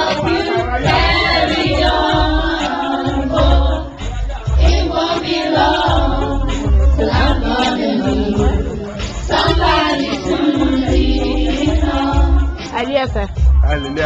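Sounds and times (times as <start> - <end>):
choir and congregation singing: 0.0 - 12.7
deep loud beat: 0.0 - 13.6
live accompaniment: 0.0 - 14.0.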